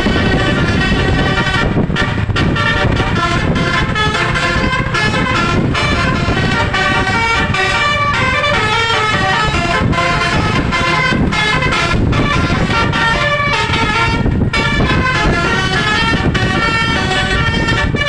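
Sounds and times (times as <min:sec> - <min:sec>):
multi-trumpet bus horn tune: 0:00.0 - 0:18.0
wind noise on microphone: 0:00.0 - 0:18.0.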